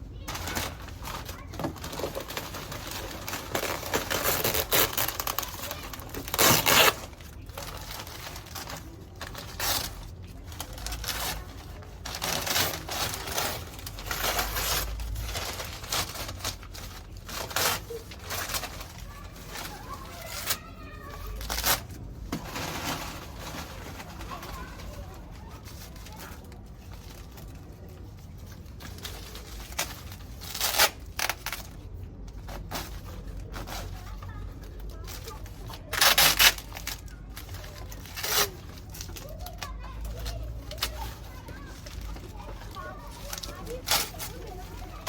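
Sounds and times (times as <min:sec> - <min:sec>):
packaging rustling and crinkling: 0:00.2 - 0:45.0.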